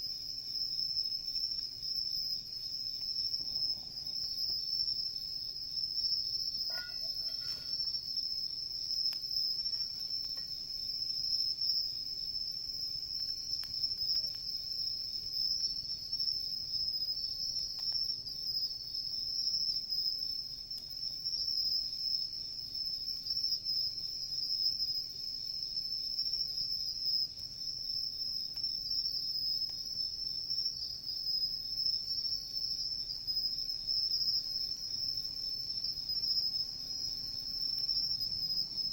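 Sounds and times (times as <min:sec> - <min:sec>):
faint bonfire crackling: 0:00.0 - 0:38.9
insects trilling: 0:00.0 - 0:38.9.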